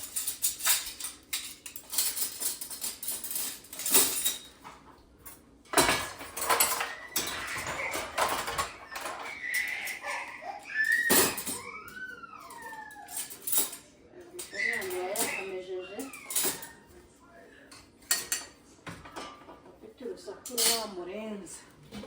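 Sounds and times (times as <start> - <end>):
dishes clattering and clinking: 0.0 - 17.0, 17.7 - 19.8, 20.4 - 22.0.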